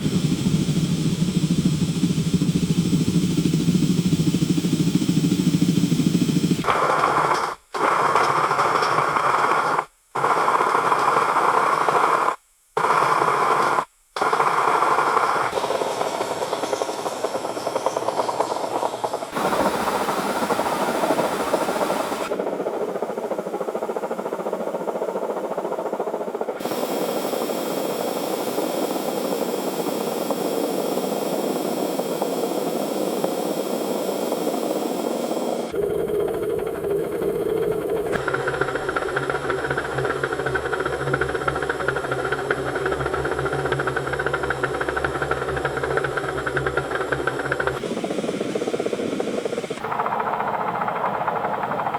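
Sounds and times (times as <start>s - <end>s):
conveyor belt running: 0.0s - 12.1s, 12.8s - 51.9s.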